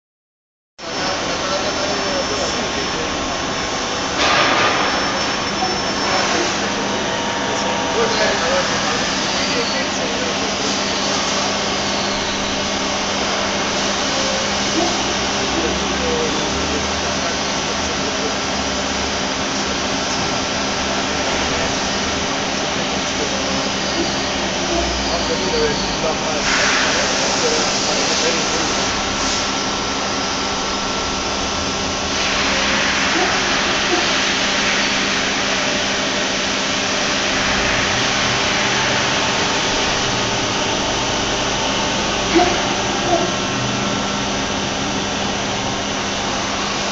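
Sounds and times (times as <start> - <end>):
milling machine whirring: 0.8 - 46.9.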